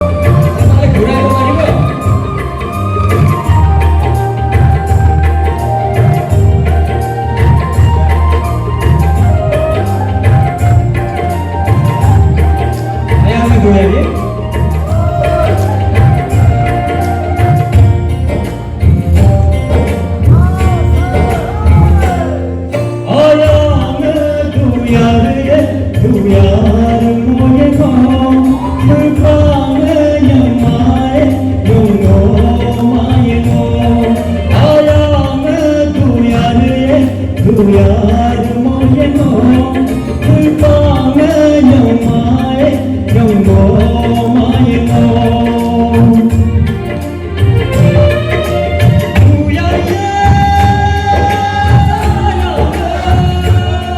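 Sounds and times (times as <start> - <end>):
amplified band playing: 0.0 - 53.9
bass guitar: 0.0 - 53.9
drums: 0.0 - 53.9
person singing: 4.7 - 17.7, 20.1 - 53.9.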